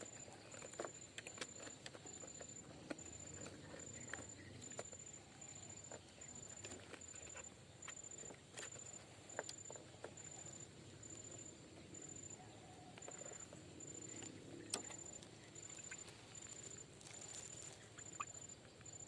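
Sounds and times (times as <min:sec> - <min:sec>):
faint pulsed high chirp: 0:00.0 - 0:19.0
small clicks and rustles: 0:00.0 - 0:19.0.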